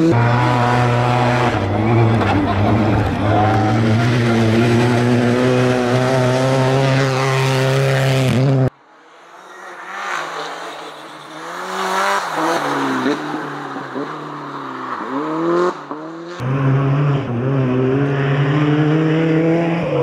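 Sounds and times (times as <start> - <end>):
car engine revving high: 0.0 - 8.7, 9.3 - 20.0
car approaching with gear changes: 0.0 - 20.0.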